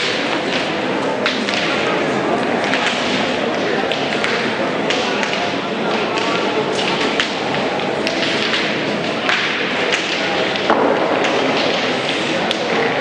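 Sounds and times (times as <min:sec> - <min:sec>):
murmur of crowd voices: 0:00.0 - 0:13.0.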